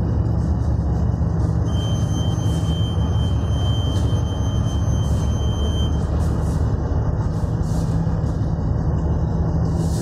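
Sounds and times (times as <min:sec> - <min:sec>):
diesel engines low rumble: 0:00.0 - 0:10.0
high whine: 0:00.0 - 0:10.0.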